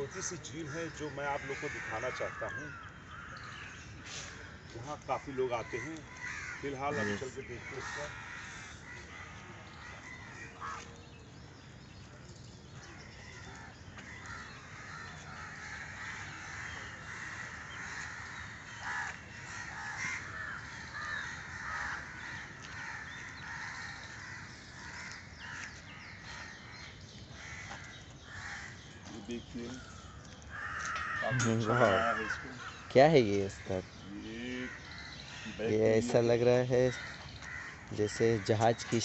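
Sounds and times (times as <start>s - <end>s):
crows cawing: 0.0s - 11.0s, 12.9s - 39.0s
birds calling: 0.0s - 39.0s.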